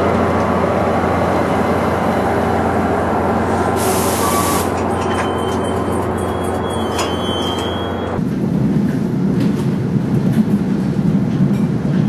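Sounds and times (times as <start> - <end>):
standing train hum: 0.0 - 12.0
train wheels rumbling on track: 0.0 - 12.0.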